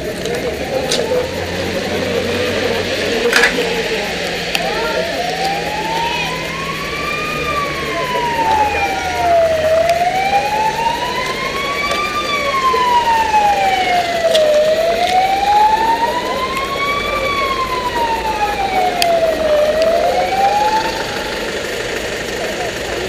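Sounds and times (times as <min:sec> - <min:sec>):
emergency vehicle siren wailing: 0:00.0 - 0:23.0.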